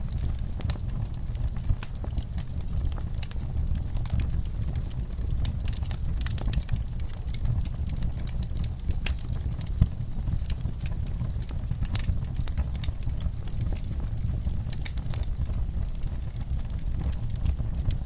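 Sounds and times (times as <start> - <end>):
burning logs crackling and popping: 0.0 - 18.0
fire flames rumbling: 0.0 - 18.0.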